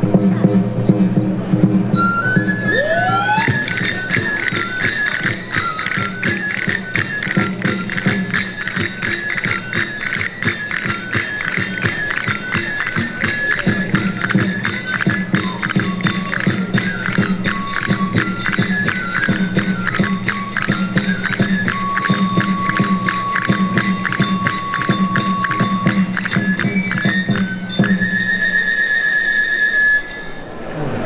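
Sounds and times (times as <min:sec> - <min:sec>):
high pipe melody: 0:02.7 - 0:28.4
fast steady drumbeats: 0:03.3 - 0:28.8.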